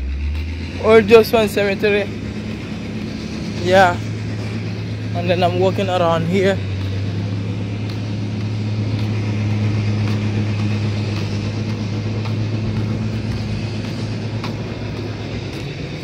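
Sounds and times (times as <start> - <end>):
construction machinery engine drone: 0.0 - 16.0.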